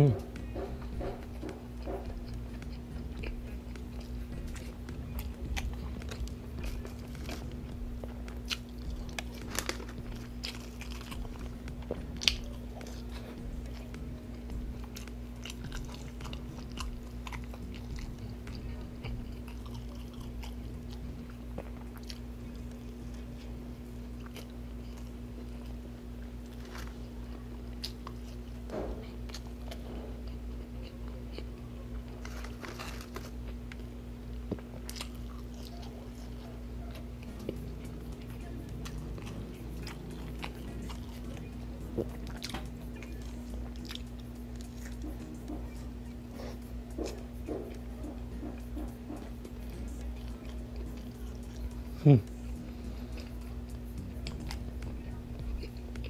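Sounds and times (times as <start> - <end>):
chewing and biting: 0.0 - 56.0
steady low hum: 0.0 - 56.0.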